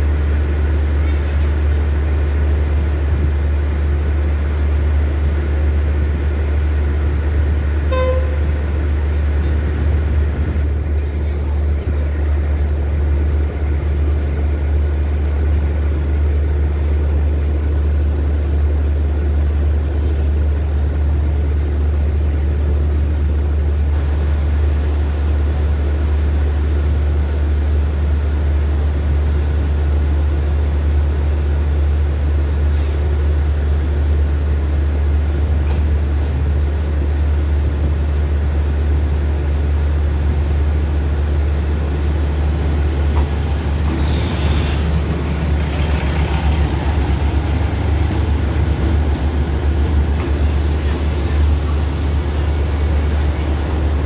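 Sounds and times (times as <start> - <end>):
diesel railcar engines rumbling: 0.0 - 54.0.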